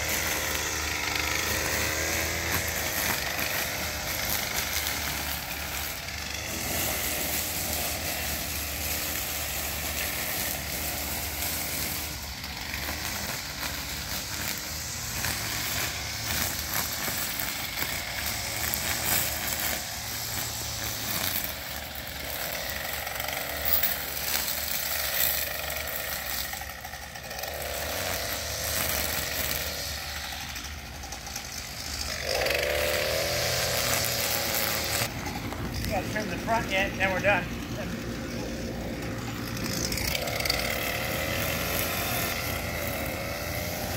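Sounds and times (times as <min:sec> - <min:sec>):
string trimmer running: 0:00.0 - 0:43.9.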